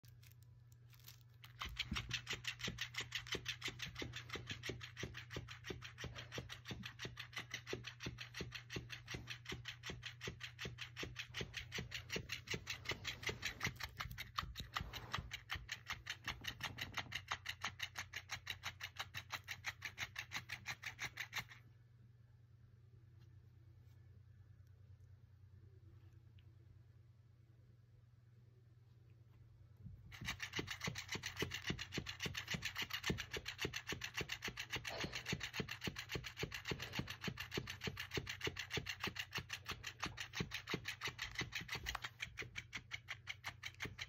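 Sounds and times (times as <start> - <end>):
toy fish flapping tail: 0.1 - 21.6, 30.0 - 44.0.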